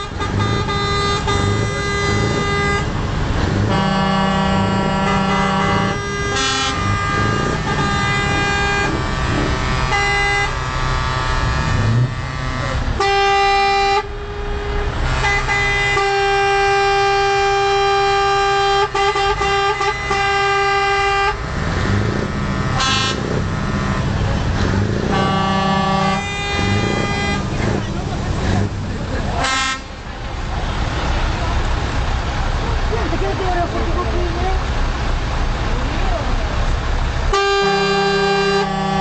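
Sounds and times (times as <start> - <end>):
truck air horn blasts: 0.0 - 30.1, 37.2 - 39.0
low engine rumble: 0.0 - 39.0.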